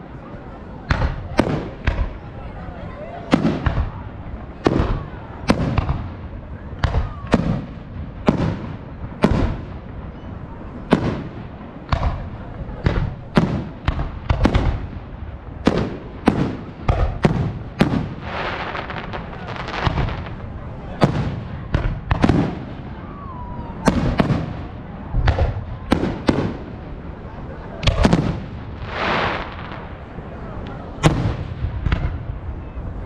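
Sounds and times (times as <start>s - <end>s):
firework crackling: 3.3s - 10.1s, 10.8s - 32.6s.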